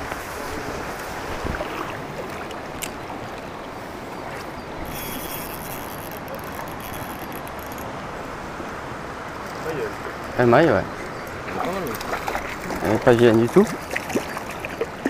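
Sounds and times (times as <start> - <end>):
river water over gravel: 0.0 - 15.0.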